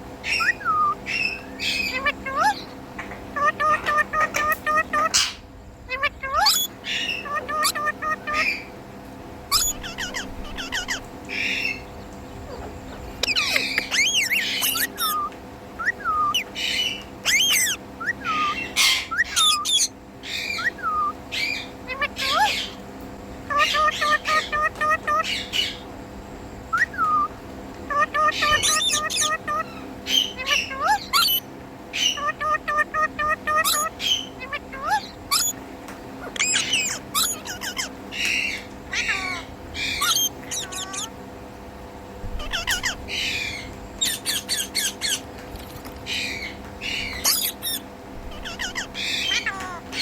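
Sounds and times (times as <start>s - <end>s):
parakeet calling: 0.2s - 8.8s, 9.5s - 26.0s, 26.6s - 41.3s, 42.2s - 50.0s.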